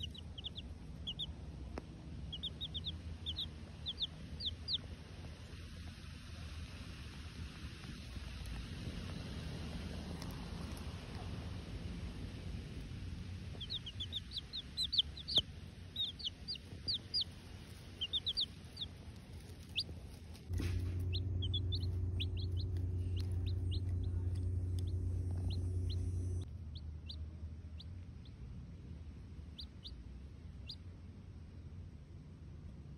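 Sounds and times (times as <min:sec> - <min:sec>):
baby chicks peeping: 0:00.0 - 0:06.7, 0:07.5 - 0:28.5, 0:29.5 - 0:30.8
steady low hum: 0:00.0 - 0:32.9.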